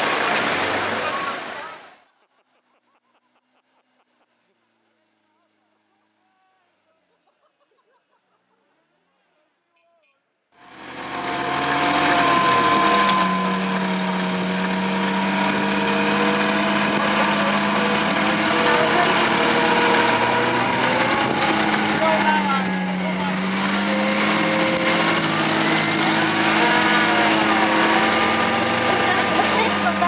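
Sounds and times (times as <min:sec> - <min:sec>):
pickup truck engine labouring: 0:00.0 - 0:06.2, 0:10.6 - 0:30.0.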